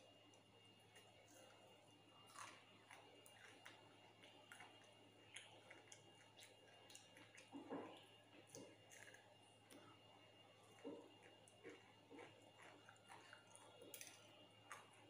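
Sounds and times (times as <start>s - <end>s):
faint chewing and crunching: 0.0s - 15.0s.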